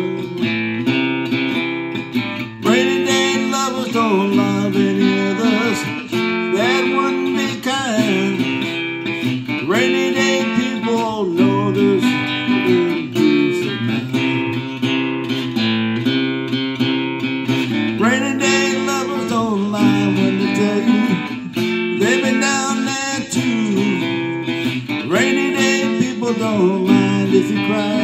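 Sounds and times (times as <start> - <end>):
man singing: 0.0 - 0.9, 2.4 - 15.3, 17.6 - 28.0
acoustic guitar strumming: 0.0 - 28.0.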